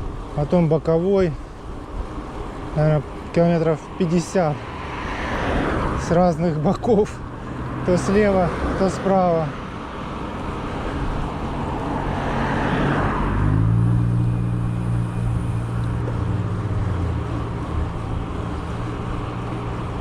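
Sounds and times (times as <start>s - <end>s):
low engine hum: 0.0s - 20.0s
tyre noise on road: 0.0s - 20.0s.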